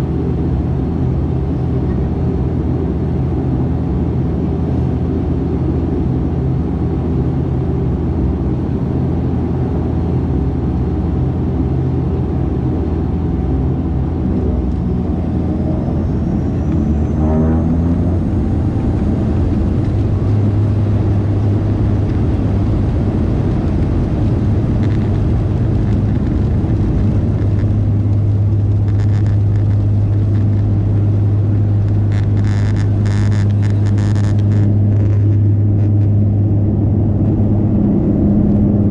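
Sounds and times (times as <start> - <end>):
turboprop engines droning in cabin: 0.0 - 38.9.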